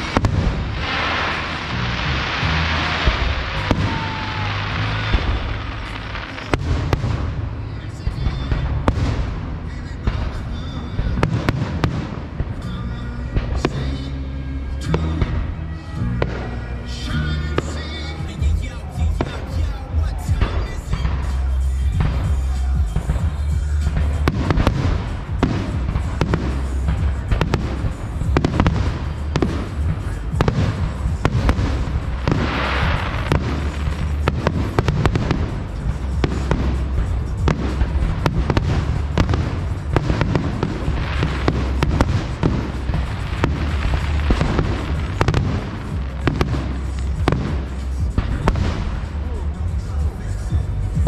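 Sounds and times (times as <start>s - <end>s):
fireworks bangs and booms: 0.0s - 51.0s
fireworks hiss: 0.0s - 51.0s.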